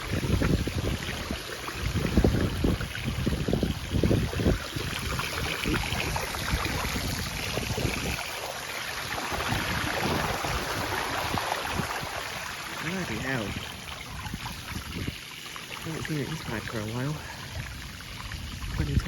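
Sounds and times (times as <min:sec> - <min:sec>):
wind buffeting microphone: 0:00.0 - 0:08.4, 0:09.1 - 0:15.3, 0:15.9 - 0:19.0
floodwater rushing and splashing: 0:00.0 - 0:19.0.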